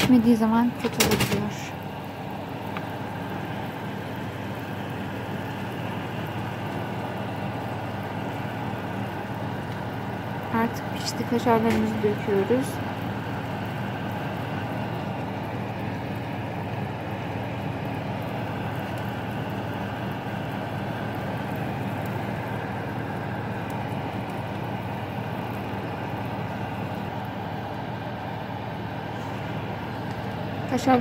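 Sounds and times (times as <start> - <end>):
kitchen fan humming: 0.0 - 31.0.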